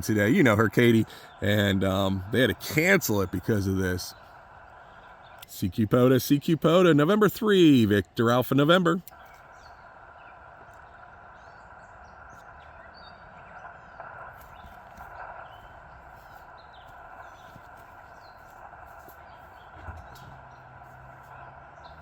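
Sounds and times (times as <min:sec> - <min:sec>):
radio static hiss: 0:00.0 - 0:22.0
small birds chirping: 0:00.0 - 0:22.0.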